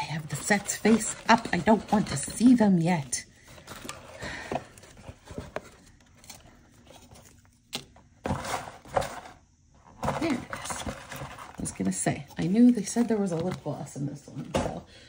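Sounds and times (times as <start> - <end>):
packaging rustling and crinkling: 0.1 - 13.9.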